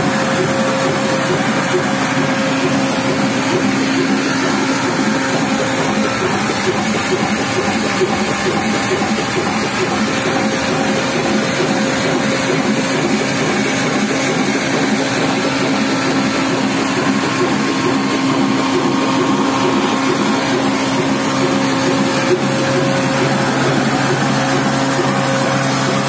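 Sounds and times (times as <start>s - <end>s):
drive belts slapping over pulleys: 0.0s - 26.0s
grinding machinery turning: 0.0s - 26.0s
steady machine hum: 0.0s - 26.0s.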